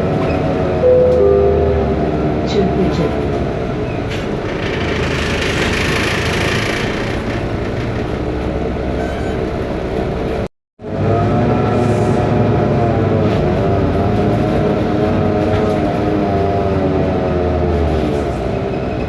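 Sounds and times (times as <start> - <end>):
bus diesel engine running: 0.0 - 19.0
road and cabin noise: 0.0 - 19.0.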